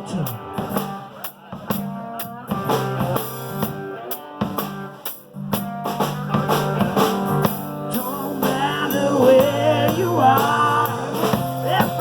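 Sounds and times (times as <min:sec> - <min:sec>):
bass guitar: 0:00.0 - 0:12.0
drum kit beat: 0:00.0 - 0:12.0
electric guitar: 0:00.0 - 0:12.0.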